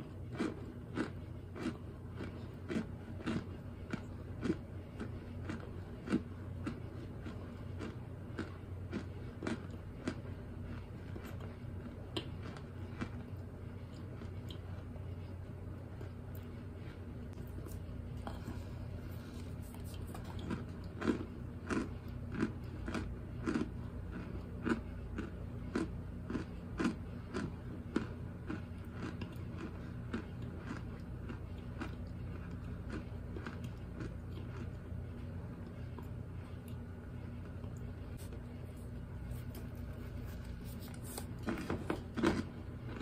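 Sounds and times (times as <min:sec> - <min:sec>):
steady low hum: 0:00.0 - 0:43.0
chewing with soft clicks: 0:00.3 - 0:15.3, 0:17.3 - 0:38.4.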